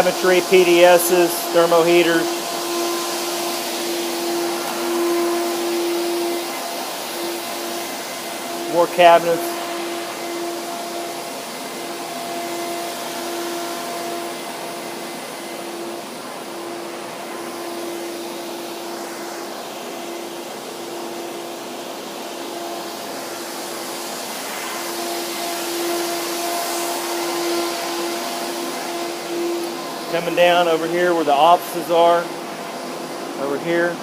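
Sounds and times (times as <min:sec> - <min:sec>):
motor hum: 0:00.0 - 0:34.0.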